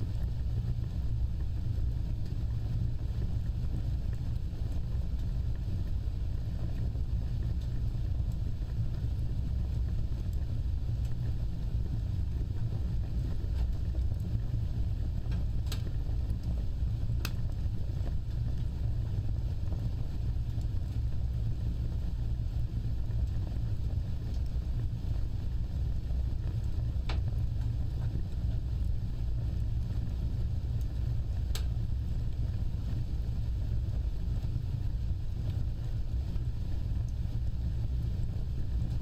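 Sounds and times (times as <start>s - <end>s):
fire crackling pops: 0.0s - 39.0s
fire flames rumbling: 0.0s - 39.0s.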